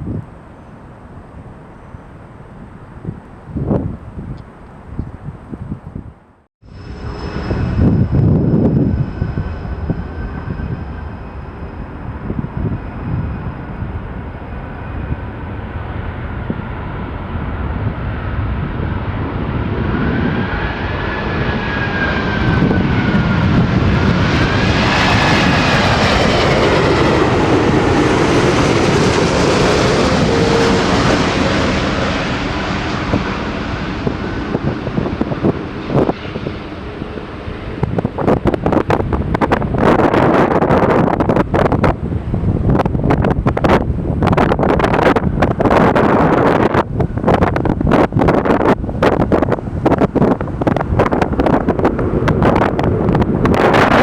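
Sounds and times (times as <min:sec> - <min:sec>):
high engine whine: 0:06.6 - 0:54.0
jet engines passing: 0:06.6 - 0:54.0.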